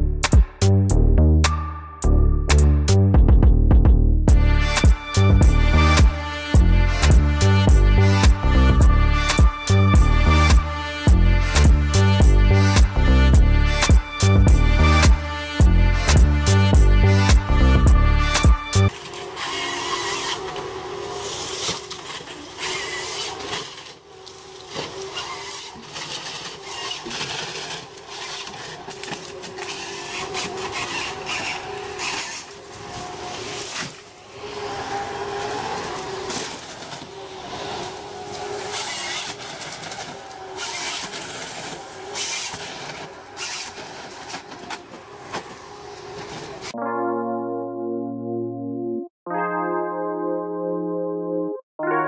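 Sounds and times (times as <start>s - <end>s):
harvester engine running: 4.3s - 46.7s.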